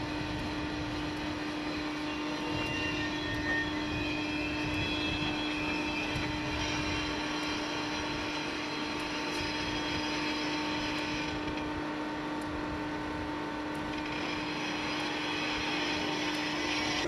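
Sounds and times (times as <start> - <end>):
train engine droning: 0.0 - 17.0.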